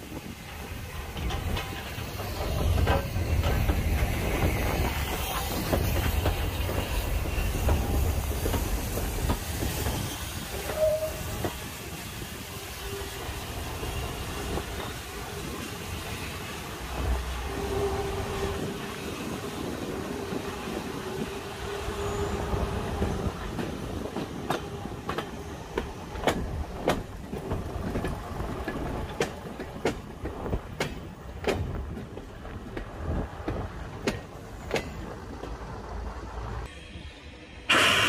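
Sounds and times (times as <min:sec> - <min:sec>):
train wheels clicking over rail joints: 0:00.0 - 0:36.1
train hum: 0:00.0 - 0:38.0.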